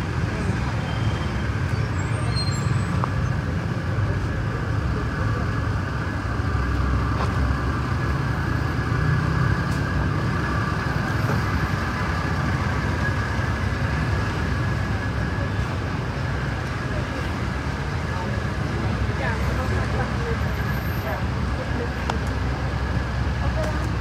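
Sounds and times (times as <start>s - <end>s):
vehicle engines: 0.0s - 24.0s.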